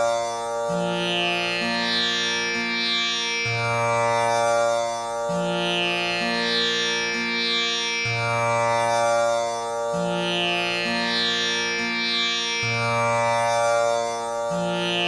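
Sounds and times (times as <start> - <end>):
tanpura drone: 0.0 - 15.0.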